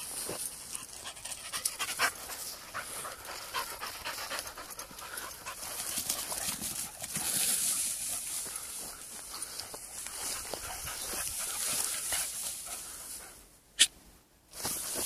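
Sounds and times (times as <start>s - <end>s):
grass rustling: 0.0s - 13.9s, 14.5s - 15.0s
dog panting: 0.3s - 13.4s.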